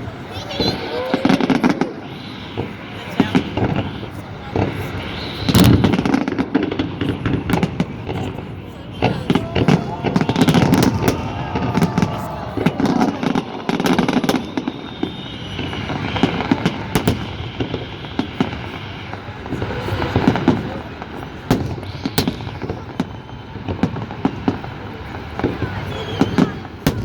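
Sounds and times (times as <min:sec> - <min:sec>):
crowd voices: 0:00.0 - 0:27.0
fireworks bangs: 0:00.0 - 0:27.0.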